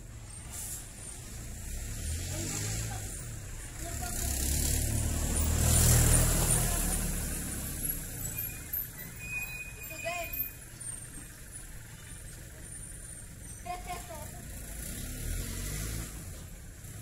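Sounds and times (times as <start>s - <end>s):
motor vehicle passing: 0.2s - 9.2s, 10.0s - 17.0s.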